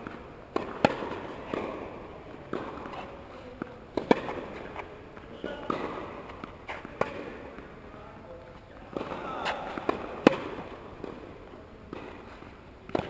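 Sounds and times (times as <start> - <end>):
racket hitting ball: 0.0 - 8.0, 8.8 - 13.0
tennis ball bouncing: 0.0 - 13.0.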